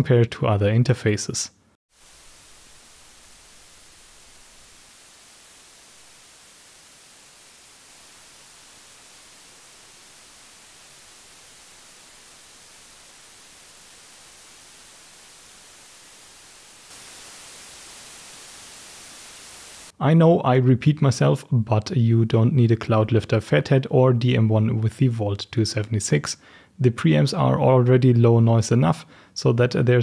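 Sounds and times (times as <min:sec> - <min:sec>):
microphone preamp hiss: 0:00.6 - 0:30.0.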